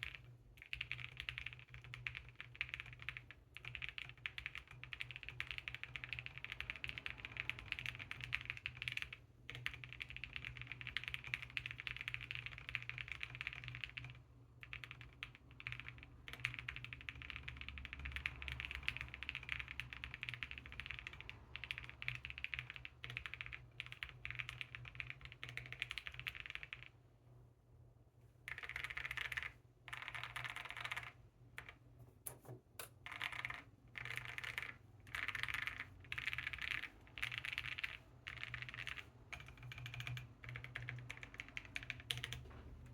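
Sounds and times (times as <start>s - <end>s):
fast mechanical keyboard typing: 0.0s - 27.0s, 28.4s - 42.9s.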